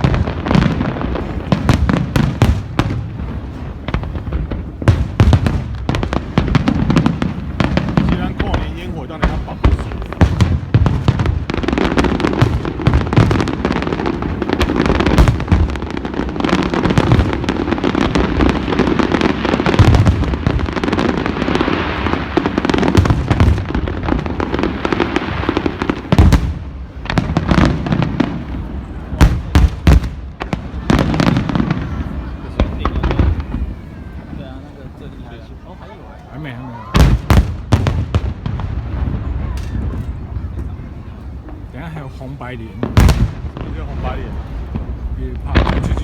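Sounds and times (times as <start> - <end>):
fireworks banging and crackling: 0.0 - 46.0.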